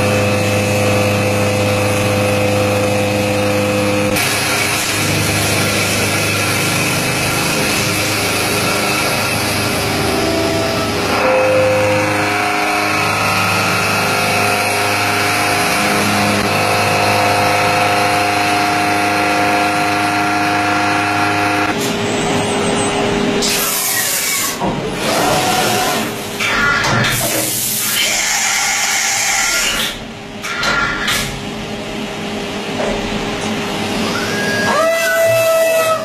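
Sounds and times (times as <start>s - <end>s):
milling machine cutting metal: 0.0s - 21.9s, 23.4s - 31.3s
rough mechanical noise: 0.0s - 34.8s.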